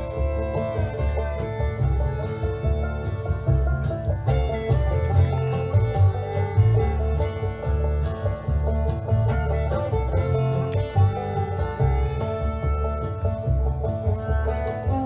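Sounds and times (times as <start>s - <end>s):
bluegrass music with banjo: 0.0s - 15.0s.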